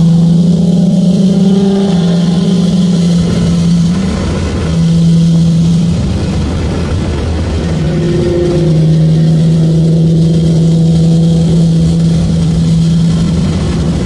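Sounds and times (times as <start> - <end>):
car engine droning inside cabin: 0.0 - 14.0.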